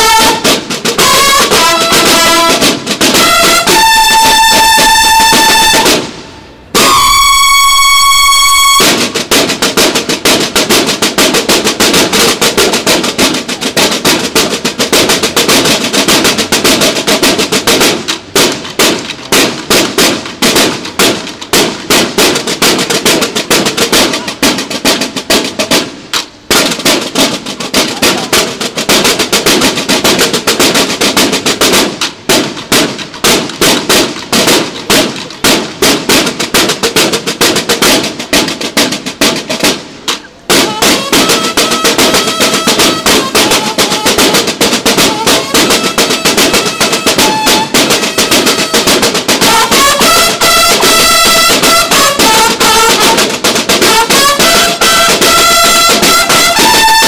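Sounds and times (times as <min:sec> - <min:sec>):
snare drum line playing: 0:00.0 - 0:57.0.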